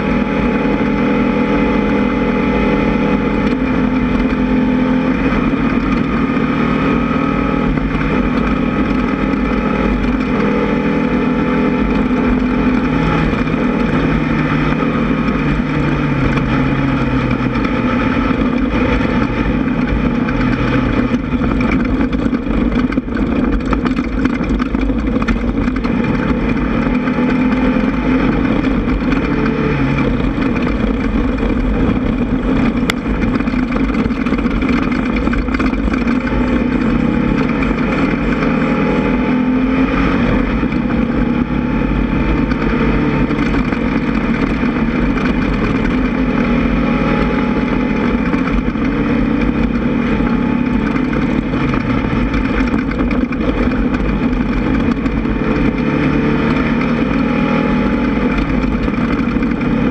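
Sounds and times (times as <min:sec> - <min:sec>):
buggy engine running hard: 0:00.0 - 0:59.9
knocks and rattles: 0:03.3 - 0:59.9.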